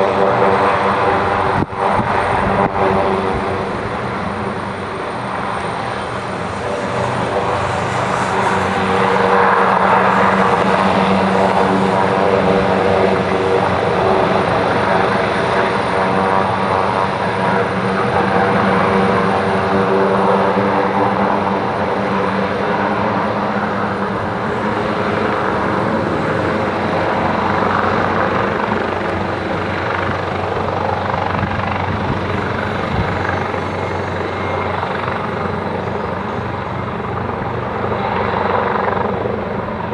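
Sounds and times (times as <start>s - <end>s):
helicopter engine whine: 0.0s - 39.9s
helicopter rotor noise: 0.0s - 39.9s.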